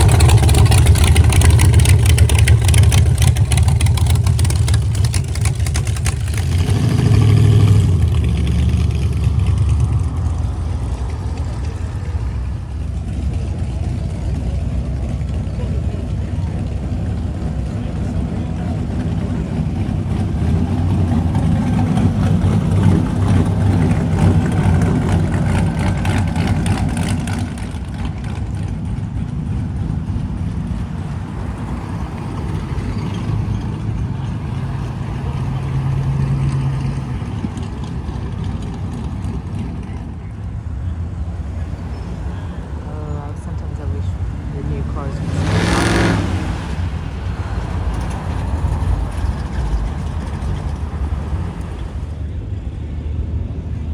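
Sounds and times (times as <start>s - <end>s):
car engines rumbling past: 0.0s - 53.9s.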